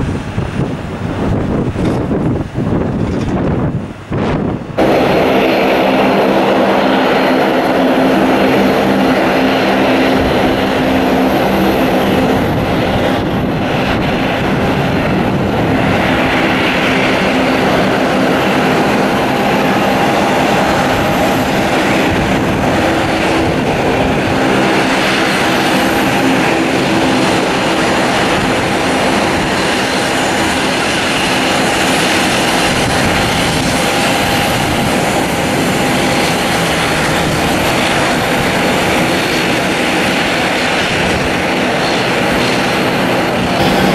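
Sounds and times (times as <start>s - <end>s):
turboprop plane taxiing: 0.0s - 43.9s.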